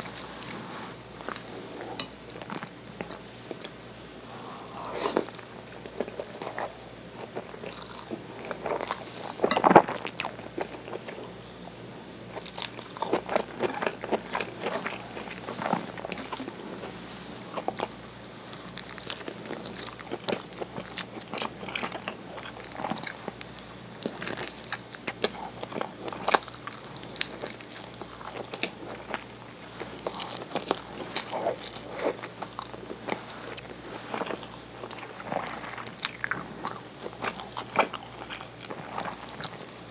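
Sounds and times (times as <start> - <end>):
chewing food: 1.2 - 39.9.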